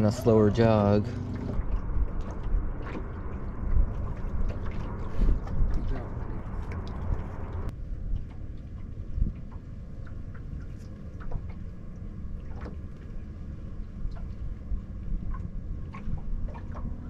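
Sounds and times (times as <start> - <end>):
low rumble of boat: 0.0 - 17.0.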